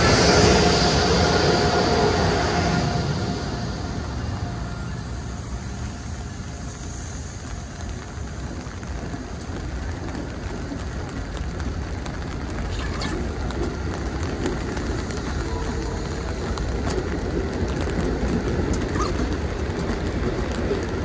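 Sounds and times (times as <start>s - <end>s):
rain pattering: 0.0s - 21.0s
train wheels rumbling on rail: 0.0s - 21.0s.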